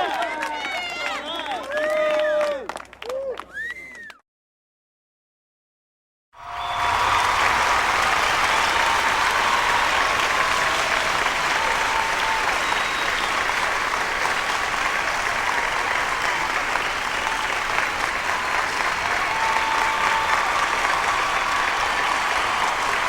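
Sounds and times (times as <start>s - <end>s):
large crowd applauding: 0.0s - 4.2s, 6.4s - 23.0s.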